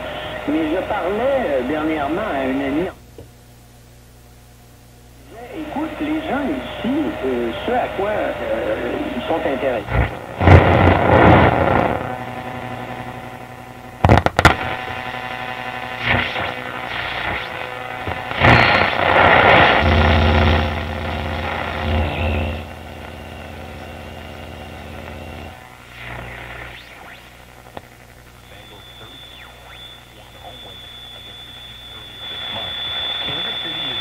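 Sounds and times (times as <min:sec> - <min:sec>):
buzzing hum: 0:00.0 - 0:34.0
radio static hiss: 0:00.0 - 0:34.0.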